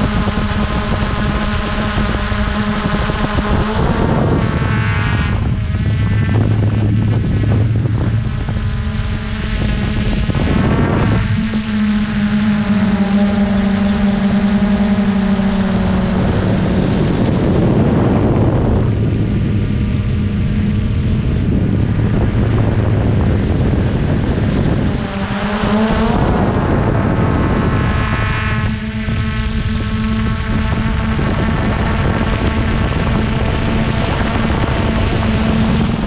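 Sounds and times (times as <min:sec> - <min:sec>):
drone propellers whirring: 0:00.0 - 0:36.0.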